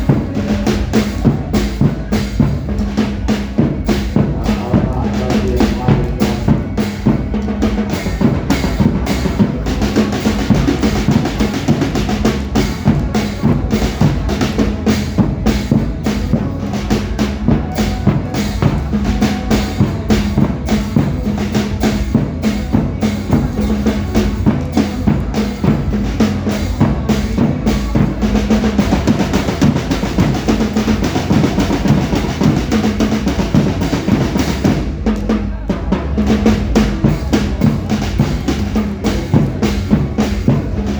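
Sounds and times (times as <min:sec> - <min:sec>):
dance music with drum beat: 0:00.0 - 0:40.9.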